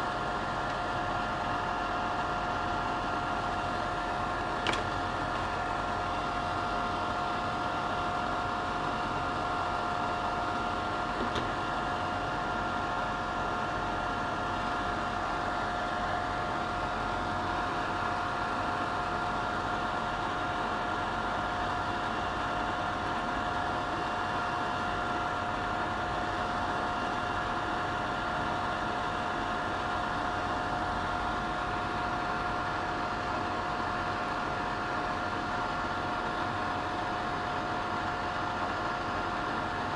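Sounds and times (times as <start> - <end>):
extraction fan whirring: 0.0 - 39.9.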